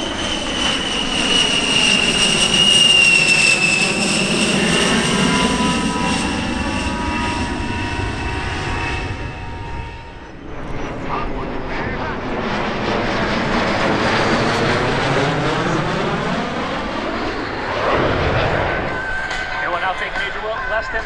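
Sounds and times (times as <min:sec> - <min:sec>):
jet flying past overhead: 0:00.0 - 0:21.0.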